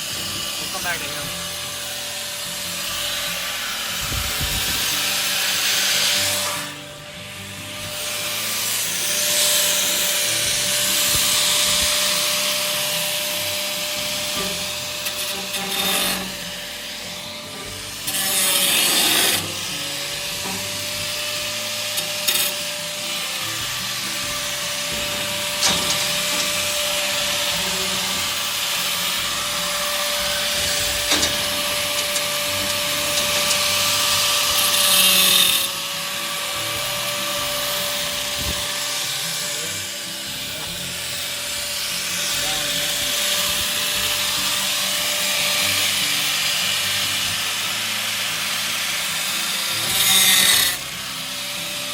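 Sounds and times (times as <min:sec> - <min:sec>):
grinder motor whine: 0:00.0 - 0:51.9
grinding wheel rasping: 0:00.0 - 0:51.9.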